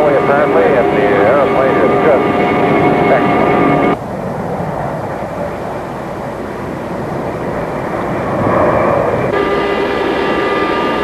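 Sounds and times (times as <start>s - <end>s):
jet airliner rushing in flight: 0.0s - 11.0s.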